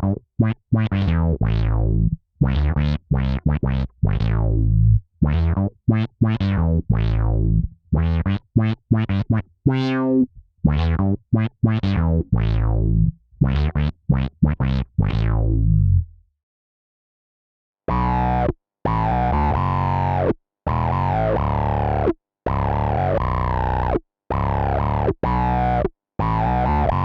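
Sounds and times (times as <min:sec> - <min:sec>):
synth bass notes: 0:00.0 - 0:16.2, 0:17.9 - 0:27.0.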